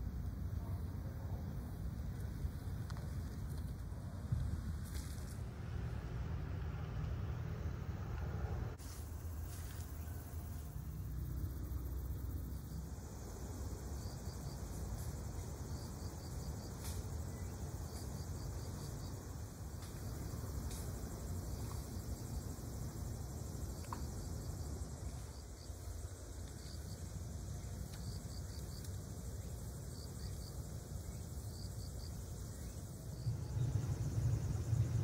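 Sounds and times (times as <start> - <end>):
insects chirping: 0.0 - 35.0
low outdoor rumble and hiss: 0.0 - 35.0.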